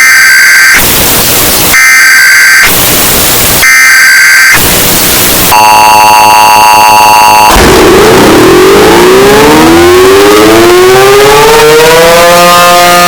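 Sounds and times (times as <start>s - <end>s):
bursts of static: 0.0s - 13.0s
buzzy two-tone attention signal: 0.0s - 13.0s
screeching data-burst tones: 0.0s - 13.0s.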